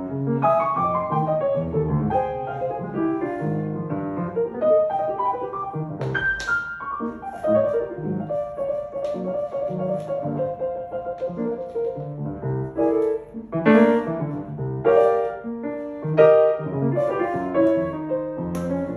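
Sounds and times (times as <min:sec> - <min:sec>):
grand piano playing: 0:00.0 - 0:18.9.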